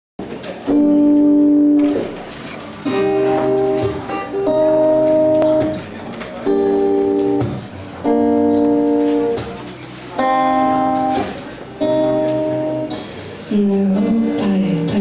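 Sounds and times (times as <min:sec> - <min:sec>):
plucked acoustic guitar: 0:00.3 - 0:15.0.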